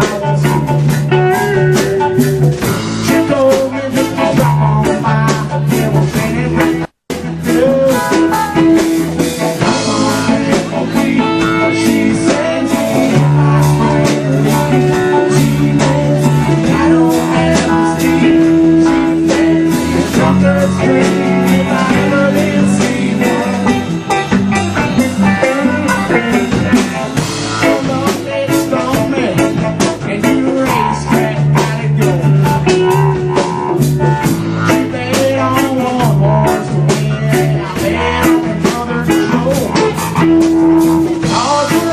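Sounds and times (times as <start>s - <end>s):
bass guitar: 0.0s - 41.9s
drum kit beat: 0.0s - 41.9s
electric guitar: 0.0s - 41.9s.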